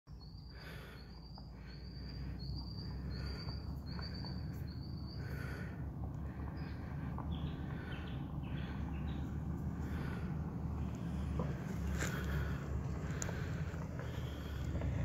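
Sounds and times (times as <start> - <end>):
low rumble: 1.3 - 15.0.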